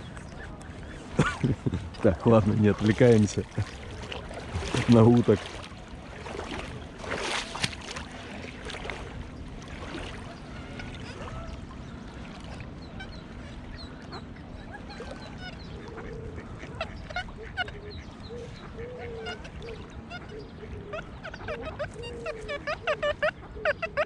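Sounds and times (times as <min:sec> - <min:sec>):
ducks quacking: 0:00.0 - 0:07.6, 0:09.8 - 0:24.0.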